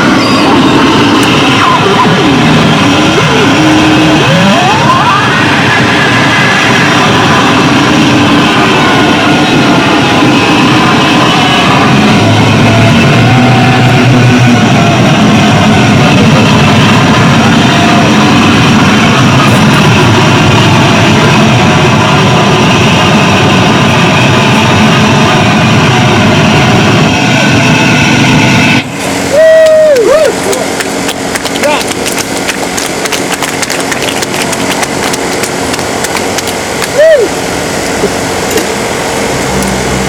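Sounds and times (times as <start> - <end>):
harsh distorted noise: 0.0 - 40.0.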